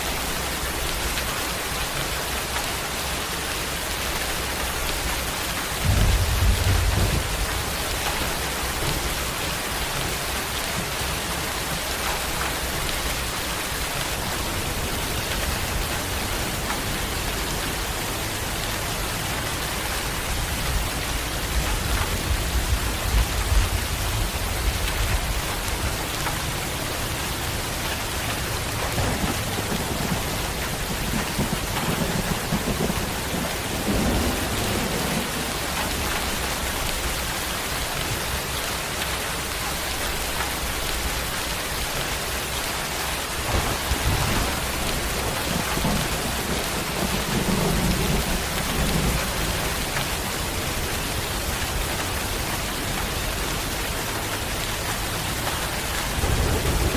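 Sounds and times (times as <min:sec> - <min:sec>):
steady rain falling: 0:00.0 - 0:56.9
thunder rumbling: 0:04.8 - 0:37.5, 0:43.2 - 0:56.9.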